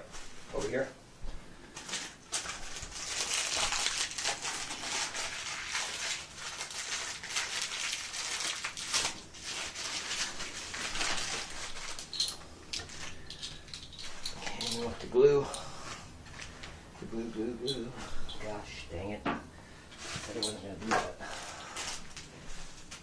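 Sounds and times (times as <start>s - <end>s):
rustling and crinkling: 0.0s - 18.6s, 19.8s - 23.0s.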